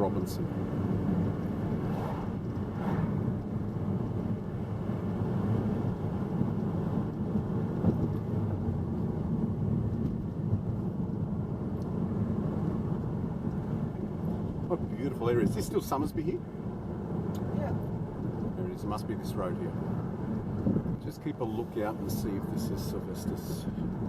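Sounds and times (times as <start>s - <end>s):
car interior road rumble: 0.0s - 24.0s.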